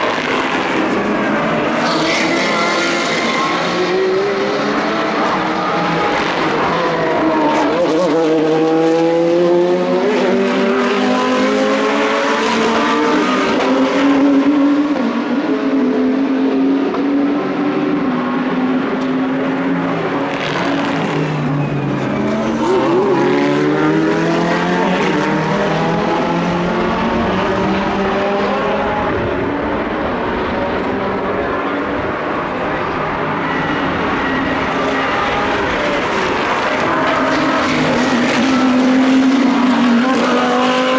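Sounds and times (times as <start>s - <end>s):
race car engines accelerating: 0.0s - 40.9s.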